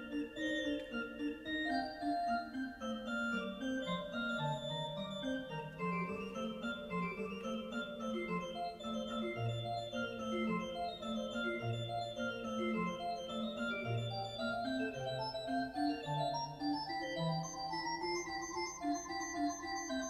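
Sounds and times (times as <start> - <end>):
pipe organ playing: 0.0 - 20.0.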